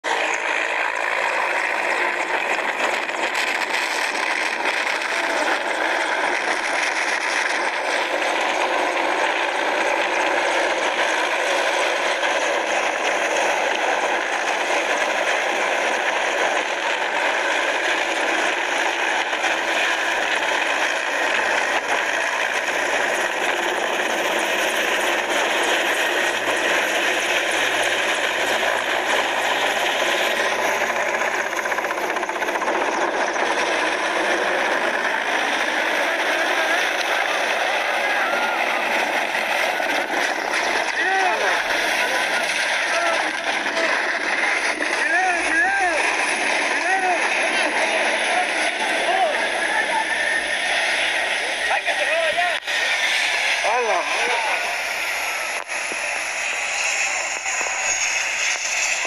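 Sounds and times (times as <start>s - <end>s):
helicopter flying overhead: 0.0s - 59.0s.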